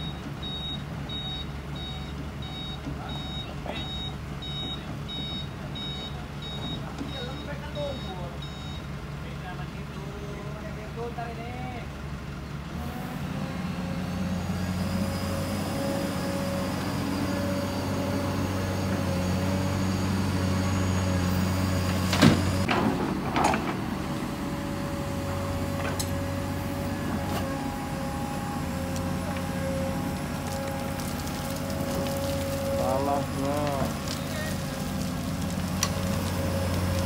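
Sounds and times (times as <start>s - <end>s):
excavator engine with whine: 0.0s - 37.0s.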